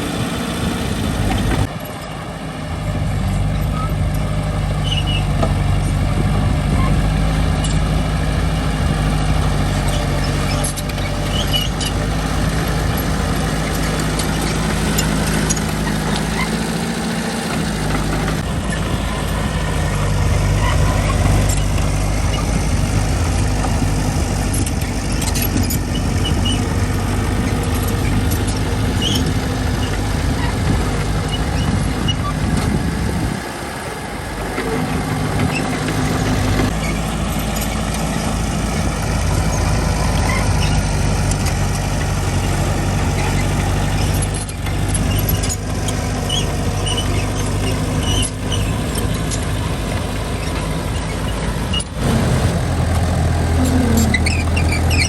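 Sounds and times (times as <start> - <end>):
diesel engine of heavy machinery: 0.0 - 55.0.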